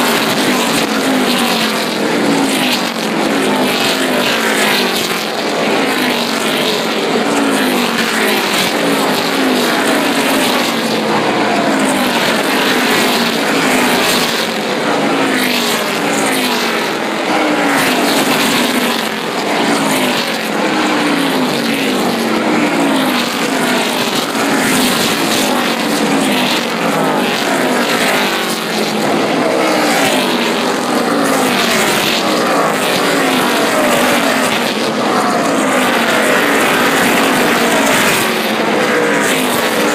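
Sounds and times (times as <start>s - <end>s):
race car engines passing by: 0.0s - 39.9s.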